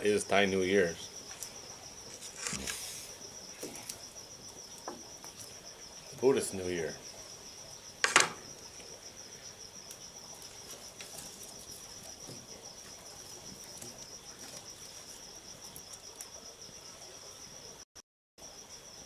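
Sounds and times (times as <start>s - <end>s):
faint scattered crackles: 0.0s - 7.2s, 7.9s - 16.5s
crickets trilling: 0.0s - 19.0s.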